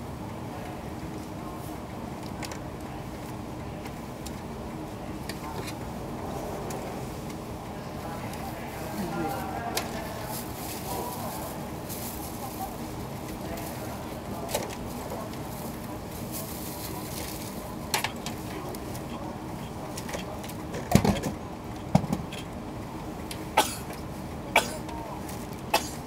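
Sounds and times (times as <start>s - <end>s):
train interior hum: 0.0s - 26.0s.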